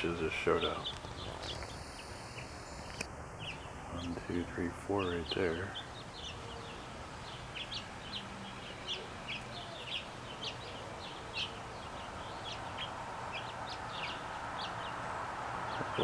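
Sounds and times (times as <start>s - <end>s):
finches chirping: 0.0s - 16.0s.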